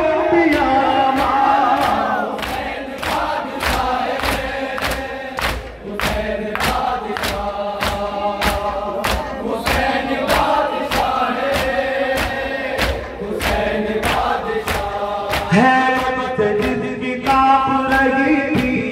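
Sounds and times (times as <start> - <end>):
men chanting a lament: 0.0 - 18.9.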